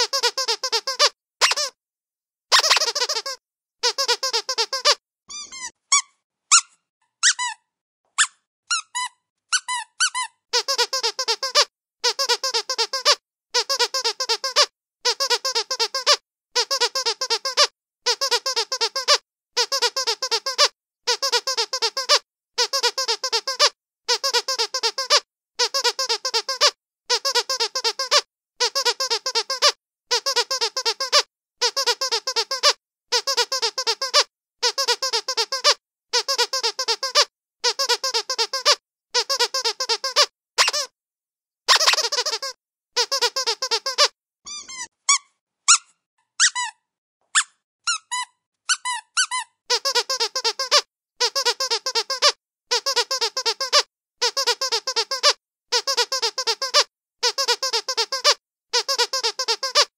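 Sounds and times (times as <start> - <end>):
squeaky dog toy squeaks: 0.0 - 1.8, 2.5 - 40.9, 41.7 - 59.9.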